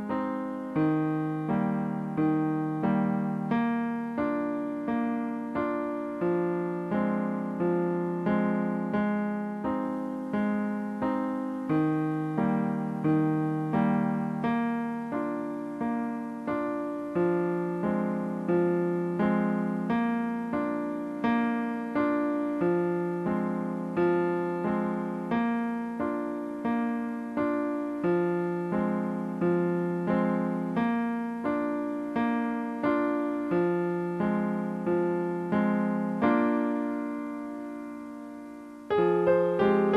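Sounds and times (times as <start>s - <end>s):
electric piano music: 0.0s - 39.9s.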